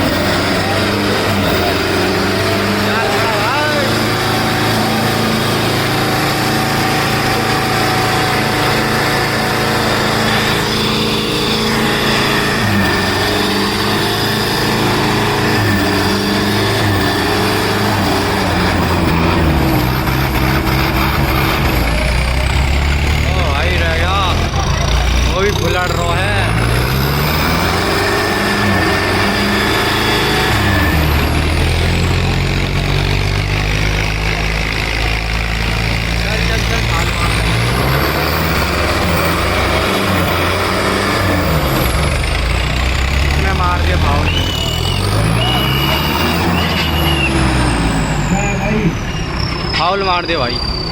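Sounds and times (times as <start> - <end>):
tractor diesel engines under load: 0.0 - 50.9.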